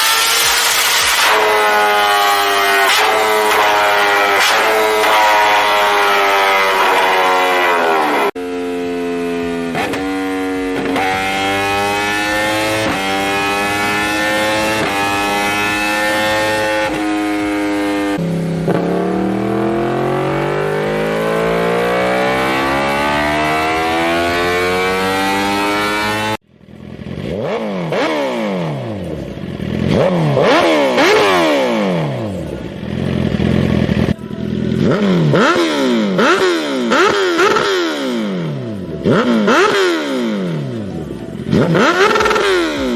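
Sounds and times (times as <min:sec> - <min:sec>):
motorcycle accelerating through gears: 0:00.0 - 0:42.9
motorcycle engine revving: 0:00.0 - 0:42.9.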